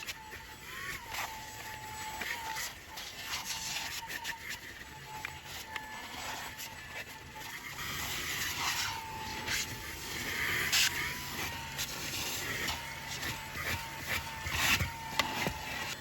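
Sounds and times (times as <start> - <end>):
handheld vacuum motor whine: 0.0 - 16.0.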